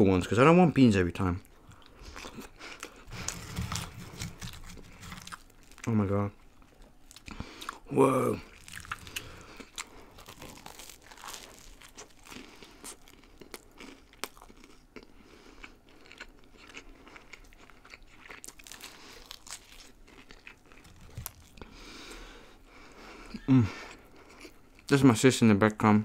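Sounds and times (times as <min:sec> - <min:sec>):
person chewing toast: 0:01.4 - 0:24.9.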